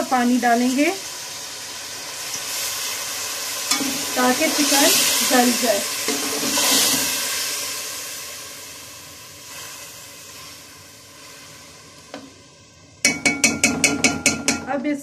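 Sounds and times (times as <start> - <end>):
water sizzling in hot oil: 0.0 - 14.7.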